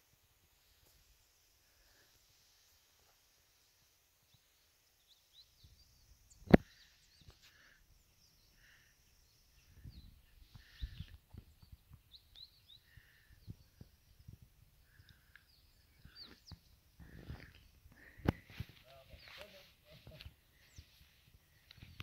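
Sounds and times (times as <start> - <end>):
small birds chirping: 0.6 - 22.0.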